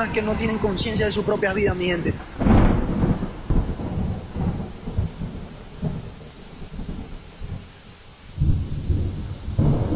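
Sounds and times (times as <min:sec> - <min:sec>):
rain hiss: 0:00.0 - 0:09.9
wind gusting against microphone: 0:00.0 - 0:09.9.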